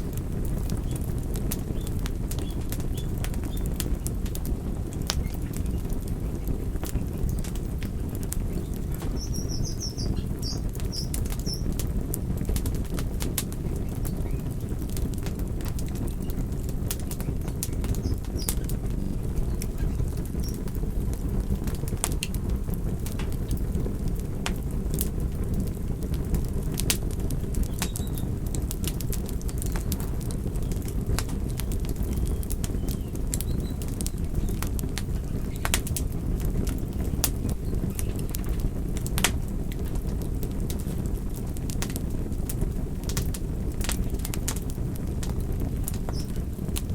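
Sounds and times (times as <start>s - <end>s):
campfire flames rushing: 0.0s - 46.9s
wood crackling and popping: 0.0s - 46.9s.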